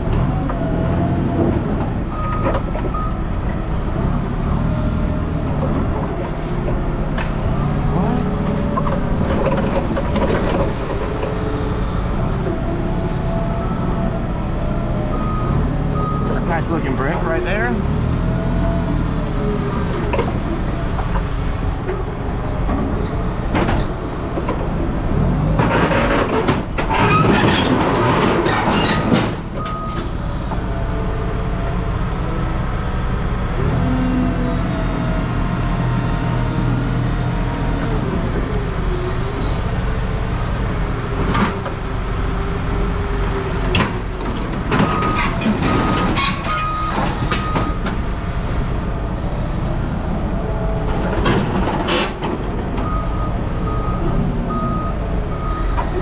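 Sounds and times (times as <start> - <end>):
heavy machinery running: 0.0 - 56.0.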